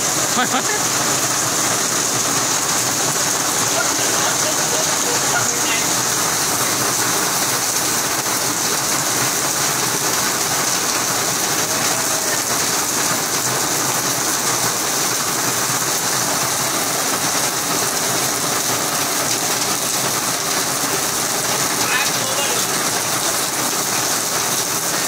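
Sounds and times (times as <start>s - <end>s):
heavy rain on standing water: 0.0s - 25.0s.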